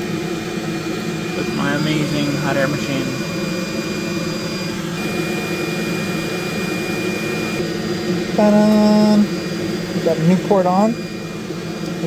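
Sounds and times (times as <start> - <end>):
hot air blower with high whine: 0.0 - 12.0.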